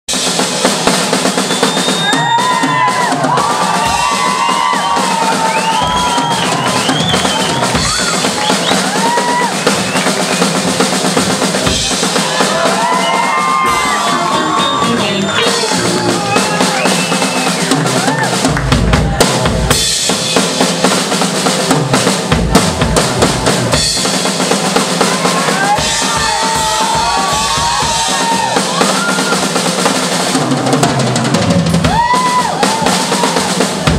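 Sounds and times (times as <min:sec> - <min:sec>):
drum kit: 0:00.1 - 0:33.9
live band playing funk: 0:00.1 - 0:33.9.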